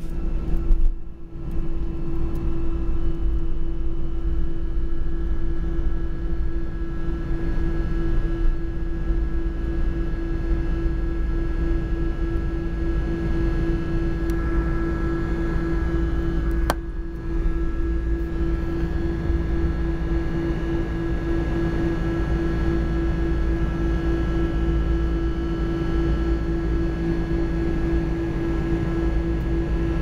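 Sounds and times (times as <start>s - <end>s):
jet engine drone in cabin: 0.0s - 30.0s
steady hum: 0.0s - 30.0s.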